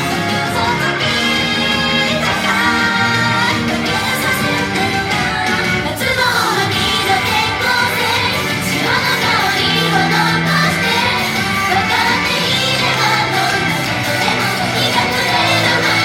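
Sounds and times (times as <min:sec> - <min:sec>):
loud pop backing track: 0:00.0 - 0:16.0
women singing: 0:00.0 - 0:16.0.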